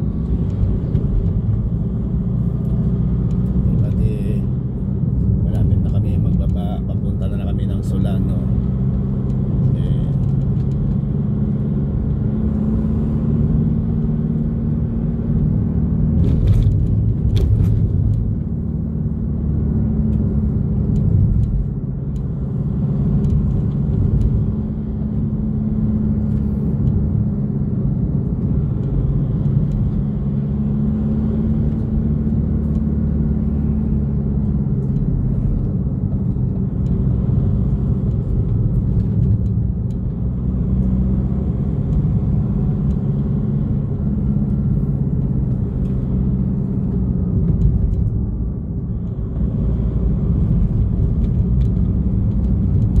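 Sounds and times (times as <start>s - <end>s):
road rumble: 0.0s - 53.0s
vehicle engine hum: 0.0s - 53.0s.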